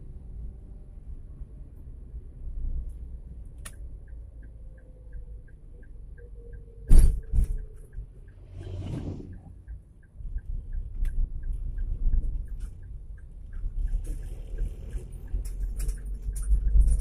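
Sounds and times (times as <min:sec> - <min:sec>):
road noise rumble inside car: 0:00.0 - 0:17.0.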